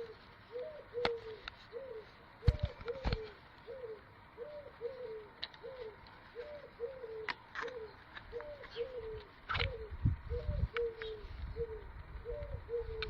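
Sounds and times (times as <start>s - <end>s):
bird cooing: 0.0s - 13.0s.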